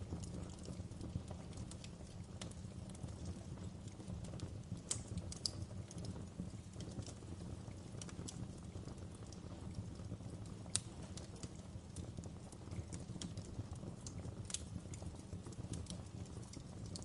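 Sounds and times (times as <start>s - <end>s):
fire crackling: 0.0s - 17.0s
pops and snaps of fire: 0.0s - 17.0s.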